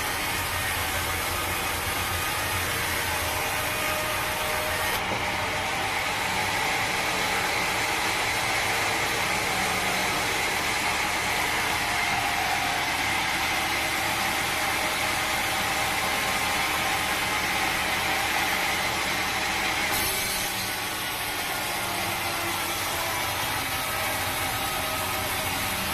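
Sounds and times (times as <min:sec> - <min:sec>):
sawmill machinery running: 0:00.0 - 0:25.9.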